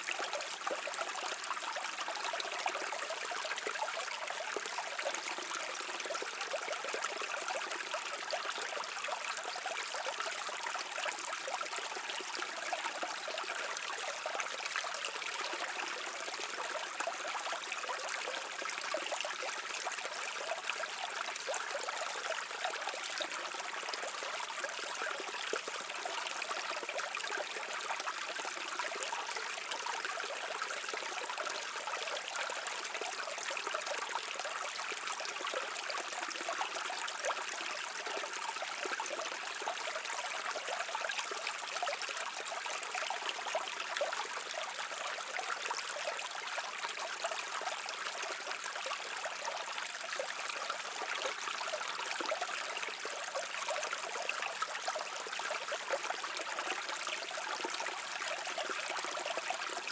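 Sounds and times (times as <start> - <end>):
creek water trickling over stones: 0.0 - 59.9.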